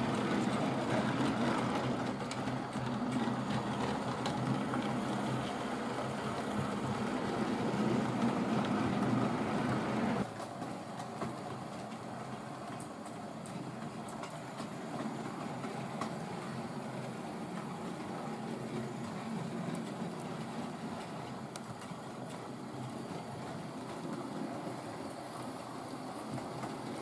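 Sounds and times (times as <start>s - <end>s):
wheels rolling over rail: 0.0s - 27.0s.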